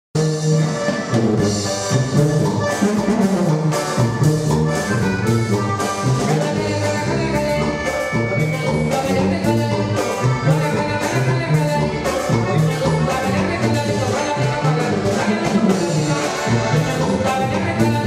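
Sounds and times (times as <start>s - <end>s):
sousaphone bass line: 0.1s - 18.0s
accordion: 0.2s - 18.0s
drum kit: 0.2s - 18.0s
electric guitar: 0.2s - 18.0s.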